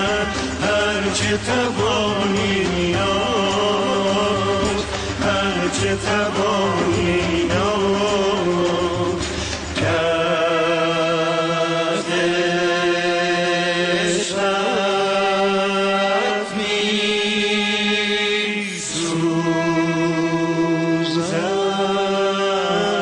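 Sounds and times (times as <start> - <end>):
men singing together: 0.0 - 23.0.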